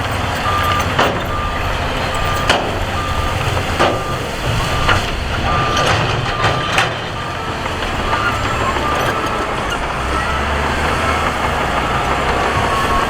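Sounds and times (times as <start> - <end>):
diesel engine running: 0.0 - 13.0
reversing alarm beeping: 0.0 - 13.0.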